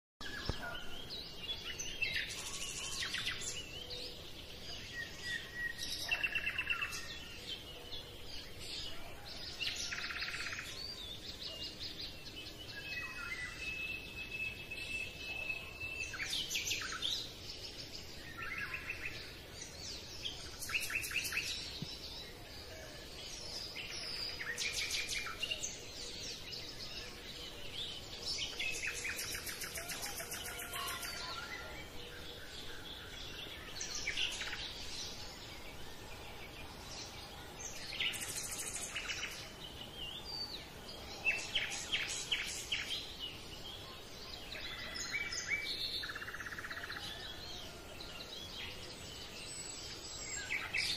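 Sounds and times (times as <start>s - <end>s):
birds chirping trills: 0.2s - 50.9s.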